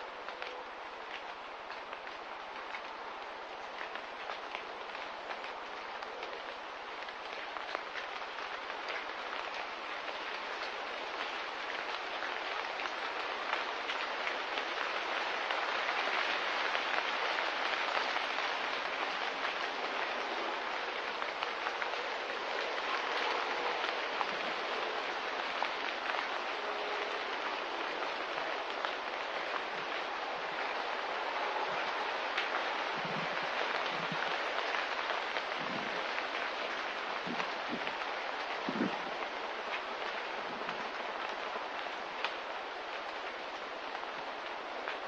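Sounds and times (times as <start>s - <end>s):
light rain falling: 0.0s - 45.0s.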